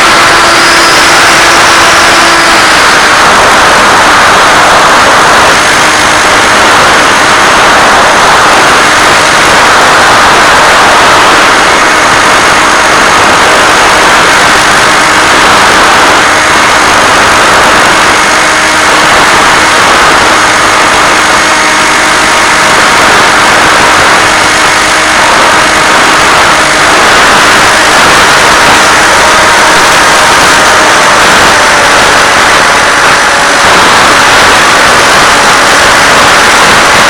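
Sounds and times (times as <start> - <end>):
loud steady hiss: 0.0 - 37.0.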